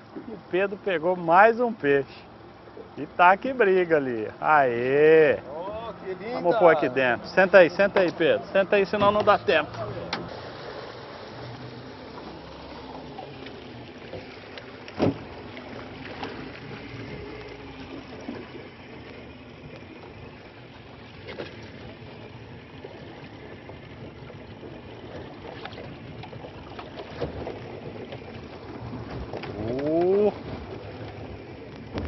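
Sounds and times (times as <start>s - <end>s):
water lapping around a boat: 0.0s - 32.0s.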